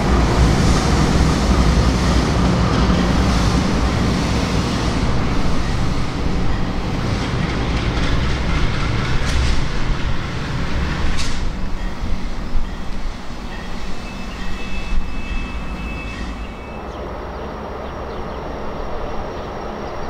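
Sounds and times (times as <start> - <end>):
locomotive engine rumble: 0.0 - 20.0
train rolling over rails: 0.0 - 20.0.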